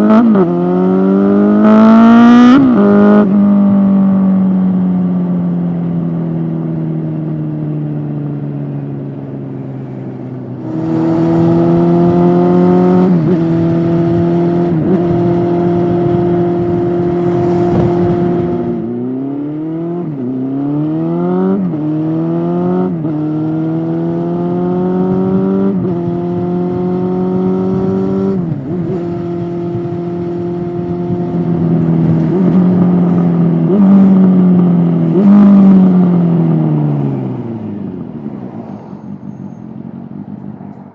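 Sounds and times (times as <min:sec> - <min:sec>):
motorcycle engine revving: 0:00.0 - 0:07.7, 0:10.5 - 0:38.2.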